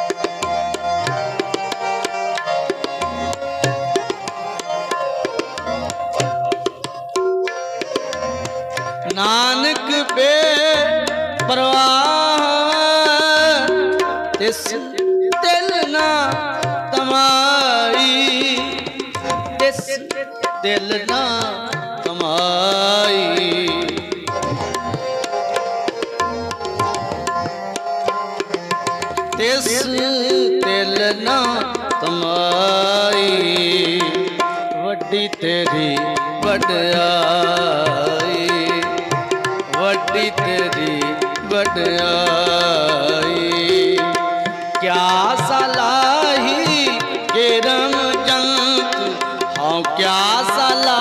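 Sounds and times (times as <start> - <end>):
tabla rhythm: 0.0 - 51.0.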